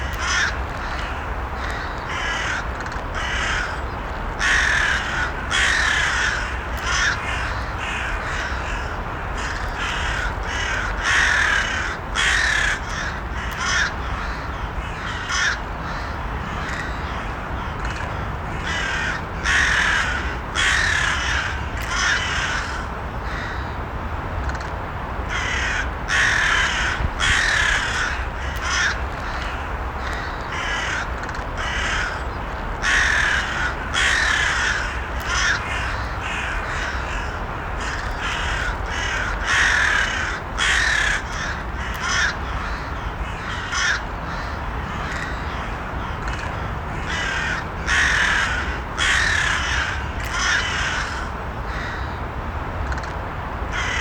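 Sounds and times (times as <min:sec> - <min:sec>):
crows cawing: 0:00.0 - 0:23.8, 0:25.3 - 0:52.2, 0:53.7 - 0:54.0.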